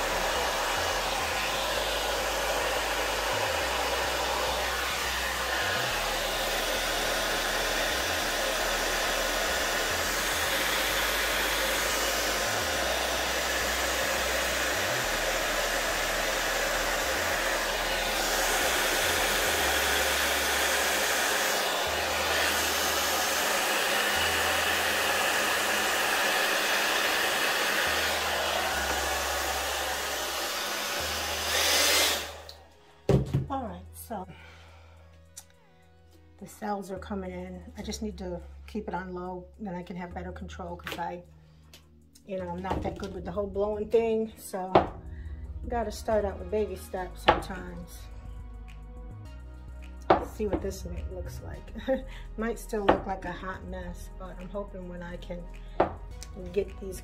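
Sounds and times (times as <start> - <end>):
hair dryer blowing: 0.0 - 33.5, 42.4 - 43.8, 44.5 - 48.0, 49.8 - 57.0.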